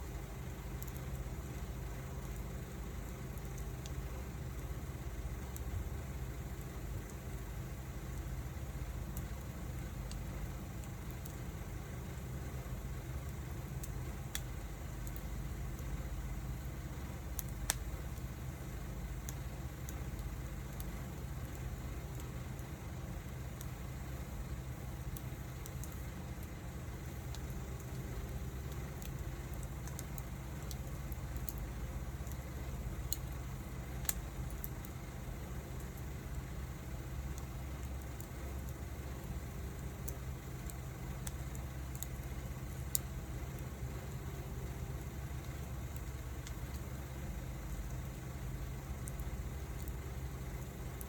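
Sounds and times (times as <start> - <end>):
fire pops: 0.0 - 51.0
wood fire crackling: 0.0 - 51.0.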